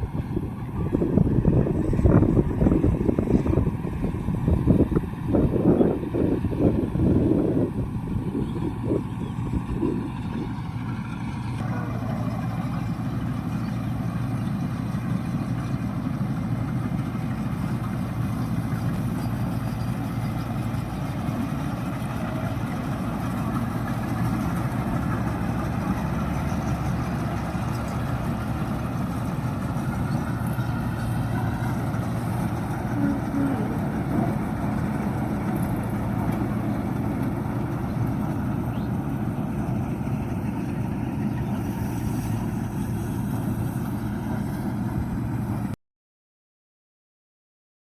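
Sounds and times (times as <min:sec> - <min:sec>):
tractor diesel engine running: 0:00.0 - 0:45.8.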